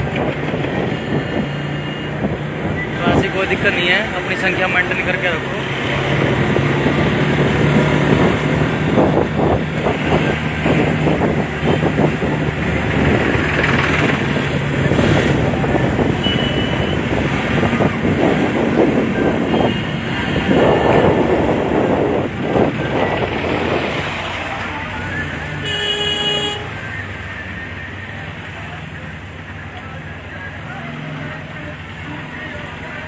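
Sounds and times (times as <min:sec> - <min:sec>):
road and wind noise: 0:00.0 - 0:33.0
vehicle engine humming: 0:00.0 - 0:33.0.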